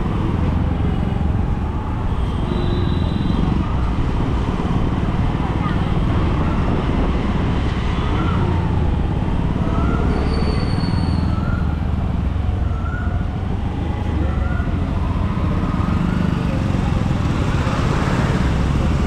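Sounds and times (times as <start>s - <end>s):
traffic noise: 0.0s - 19.0s
wind and tyres rumbling: 0.0s - 19.0s.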